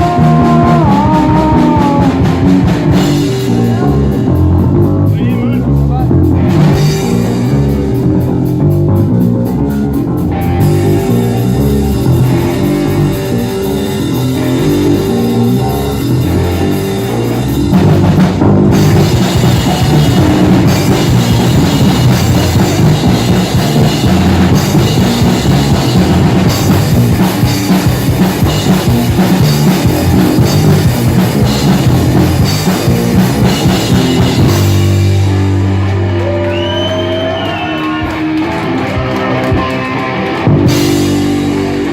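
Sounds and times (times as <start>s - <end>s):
bass guitar: 0.0s - 41.9s
drum kit: 0.0s - 41.9s
electric guitar: 0.0s - 41.9s.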